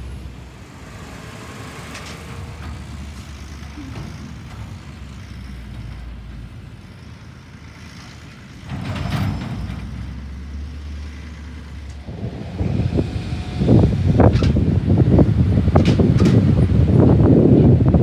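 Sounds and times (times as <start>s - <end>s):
garbage truck engine rumbling: 0.0s - 18.0s.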